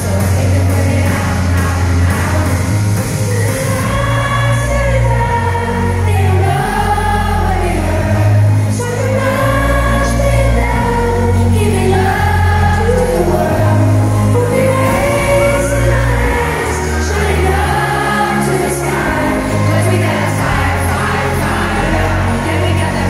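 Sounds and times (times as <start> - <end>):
backing voices singing: 0.0 - 23.0
deep bass notes: 0.0 - 23.0
woman singing lead vocal: 0.0 - 23.0.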